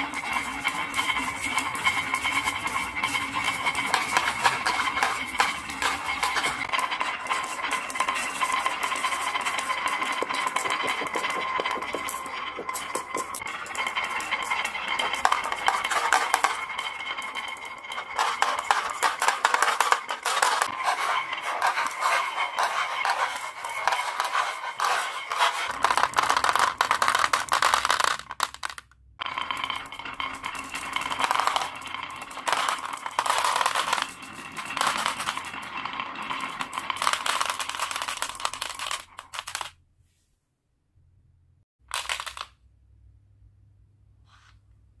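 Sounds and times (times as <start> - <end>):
marbles clattering down a wooden run: 0.0 - 39.8, 41.9 - 42.6
marbles clinking into plastic: 0.0 - 39.8, 41.9 - 42.6.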